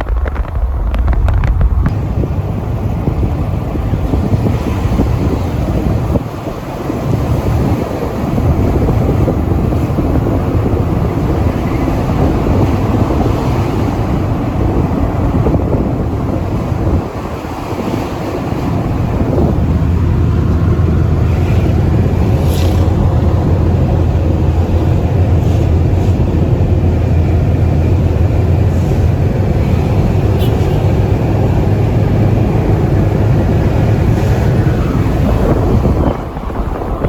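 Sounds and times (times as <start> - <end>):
low engine hum: 0.0 - 37.0
vehicle engine and road noise: 0.0 - 37.0
wind buffeting microphone: 0.0 - 37.0.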